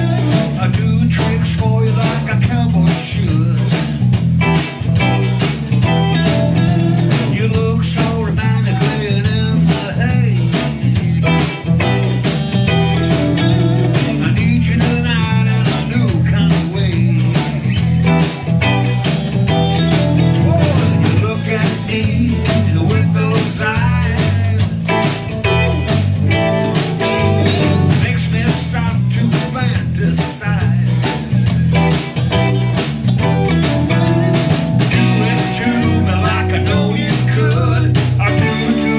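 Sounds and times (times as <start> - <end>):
drum kit beat: 0.0 - 38.9
electric bass: 0.0 - 38.9
electric guitars: 0.0 - 38.9.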